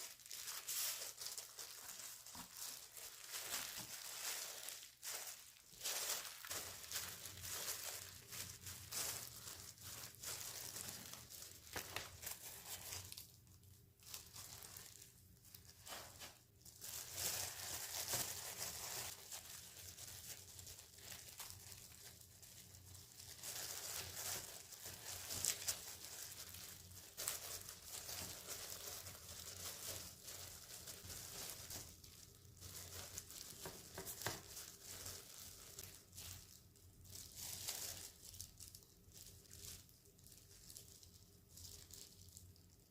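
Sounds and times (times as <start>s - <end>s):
crinkling and rustling: 0.0s - 42.9s.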